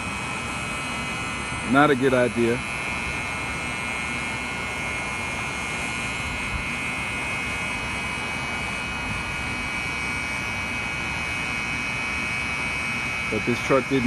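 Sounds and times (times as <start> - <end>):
vehicle engine with high whine: 0.0 - 14.0.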